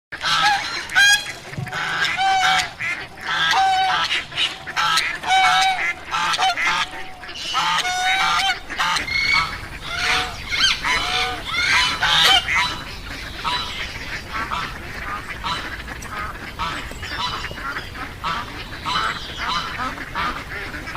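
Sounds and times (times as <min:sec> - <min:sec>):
waterfowl calling: 0:00.2 - 0:20.9.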